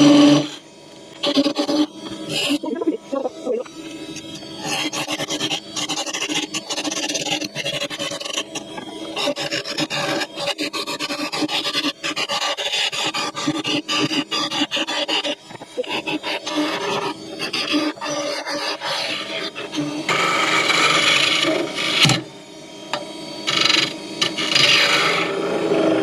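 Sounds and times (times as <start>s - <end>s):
tool rasping on spinning wood: 0.0s - 0.6s, 1.2s - 22.2s, 23.5s - 26.0s
lathe humming: 0.0s - 26.0s.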